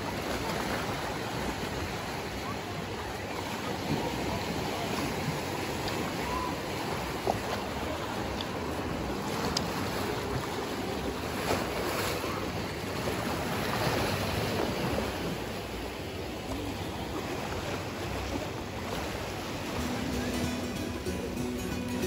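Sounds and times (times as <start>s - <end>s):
small waves washing against shore: 0.0s - 22.0s.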